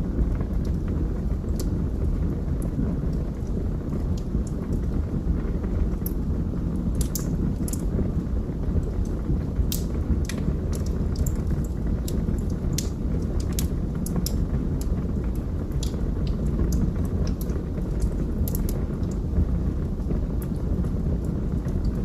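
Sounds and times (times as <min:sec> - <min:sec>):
fire crackles and pops: 0:00.0 - 0:22.0
low rush of flames: 0:00.0 - 0:22.0.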